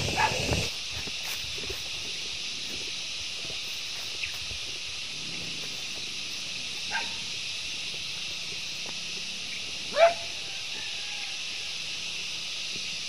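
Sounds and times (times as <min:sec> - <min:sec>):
high-pitched outdoor hiss: 0:00.0 - 0:13.0.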